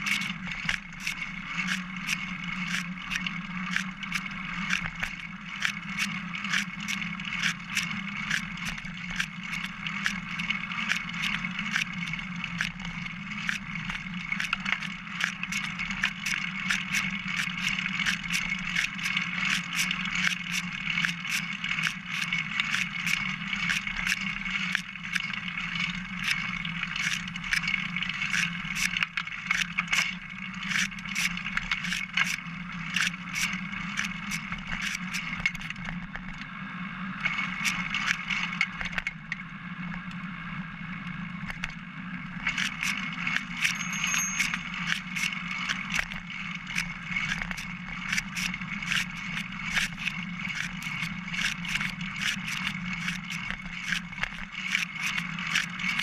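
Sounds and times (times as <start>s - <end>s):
bicycle clicks and rattles: 0.0s - 36.5s, 37.2s - 40.2s, 42.4s - 56.0s
bicycle tyre and frame noise: 0.0s - 56.0s.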